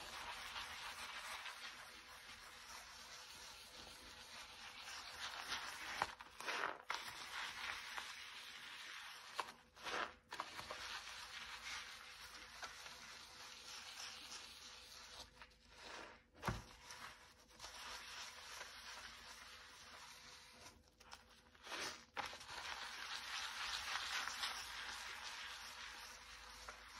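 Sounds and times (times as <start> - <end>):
sponge scrubbing sink: 0.0 - 26.9.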